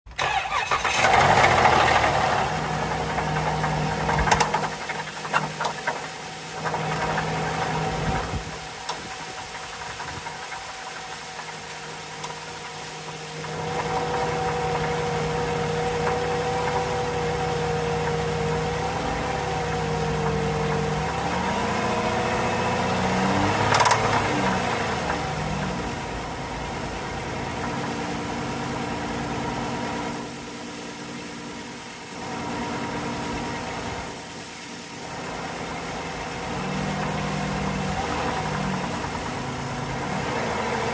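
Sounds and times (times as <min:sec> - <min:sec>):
car engine tapping and ticking: 0:00.1 - 0:40.9.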